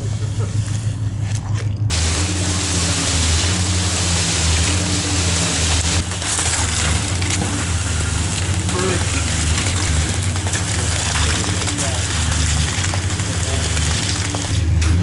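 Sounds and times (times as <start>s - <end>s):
heavy diesel engine running: 0.0s - 15.0s
dense rushing noise: 1.9s - 14.8s.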